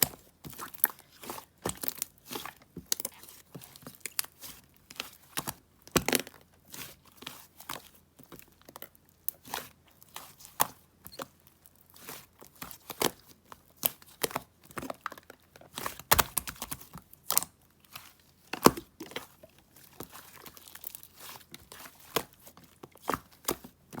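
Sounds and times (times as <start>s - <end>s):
crinkling and crackling material: 0.0s - 24.0s.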